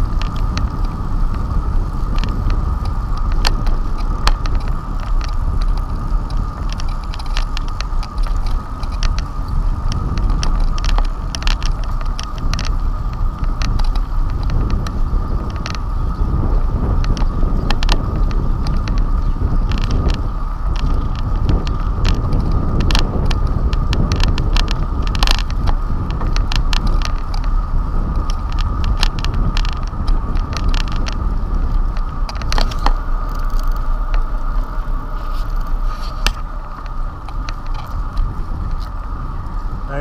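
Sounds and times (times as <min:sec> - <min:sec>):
bike rattles and clicks: 0:00.0 - 0:40.0
road rumble: 0:00.0 - 0:40.0
wind: 0:00.0 - 0:40.0.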